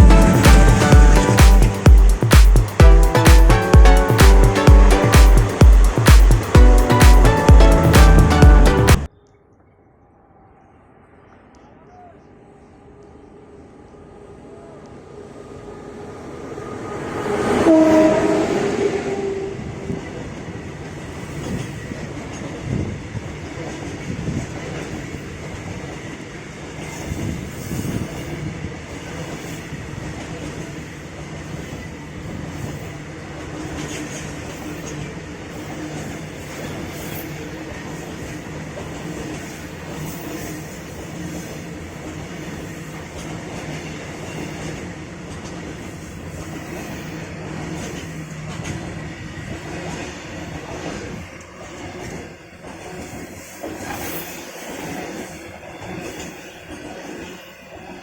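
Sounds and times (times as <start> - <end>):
freight train rumbling past: 0.0 - 9.1, 13.3 - 58.0.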